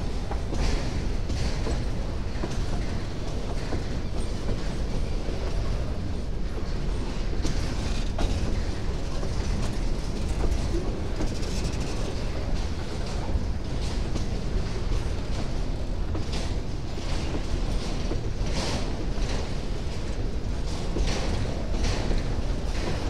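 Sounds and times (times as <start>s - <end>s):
freight cars clicking and clanking: 0.0s - 23.0s
steel wheels rumbling on rails: 0.0s - 23.0s.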